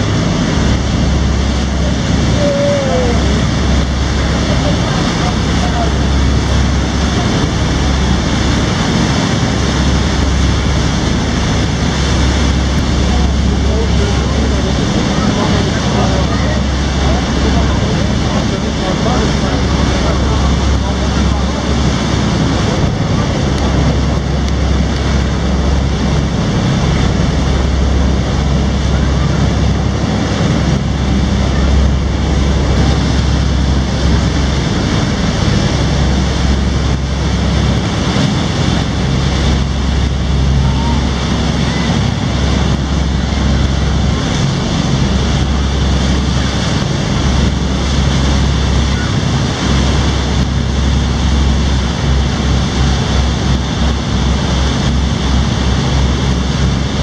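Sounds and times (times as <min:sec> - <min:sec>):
boat engine: 0:00.0 - 0:57.0
water rushing past hull: 0:00.0 - 0:57.0
wind buffeting microphone: 0:00.0 - 0:57.0.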